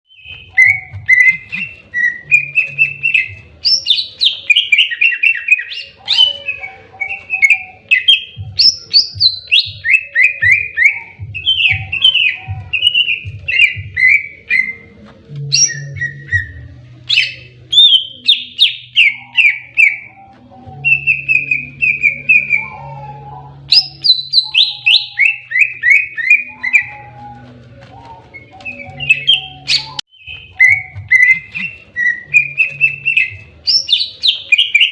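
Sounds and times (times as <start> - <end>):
bird singing whistled notes: 0.1 - 34.9.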